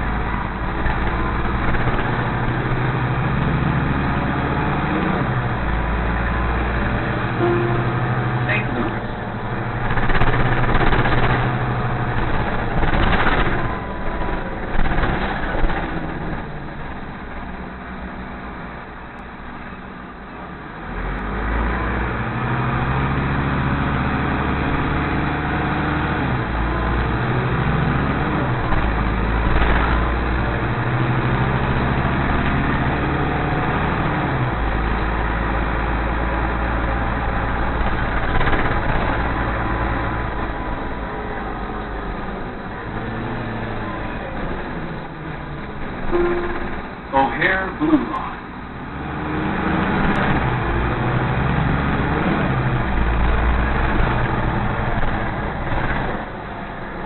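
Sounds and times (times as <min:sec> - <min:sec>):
bus engine accelerating: 0:00.0 - 0:57.0.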